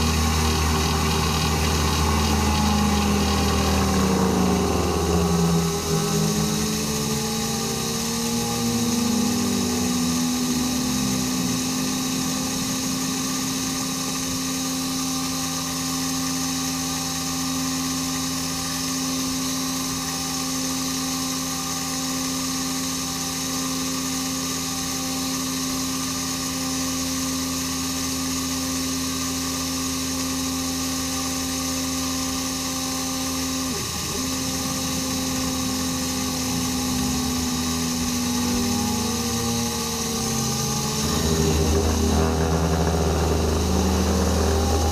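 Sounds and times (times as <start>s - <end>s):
milling machine whine: 0.0s - 44.9s.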